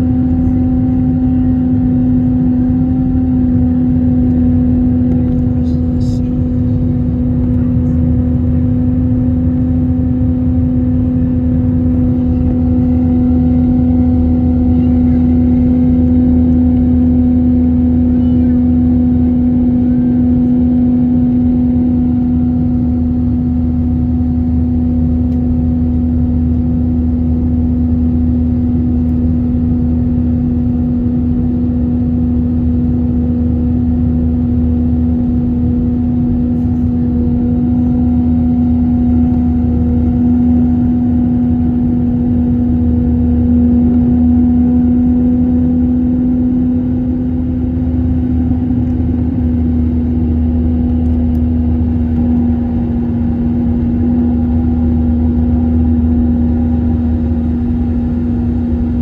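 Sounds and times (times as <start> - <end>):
jet engine rumble in cabin: 0.0 - 59.0
loud steady hum: 0.0 - 59.0.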